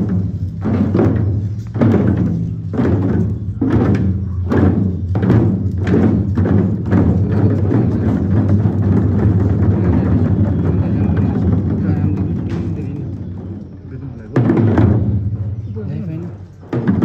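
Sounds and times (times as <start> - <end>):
frame drums beaten: 0.0 - 17.0.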